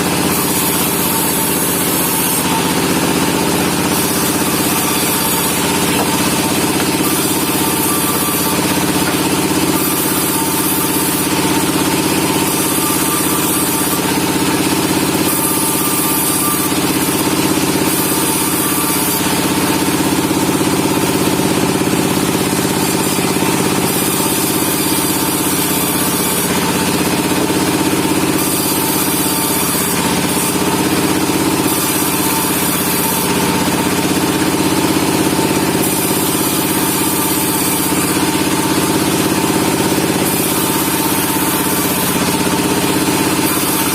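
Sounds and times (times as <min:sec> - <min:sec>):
sawmill machinery droning: 0:00.0 - 0:43.9.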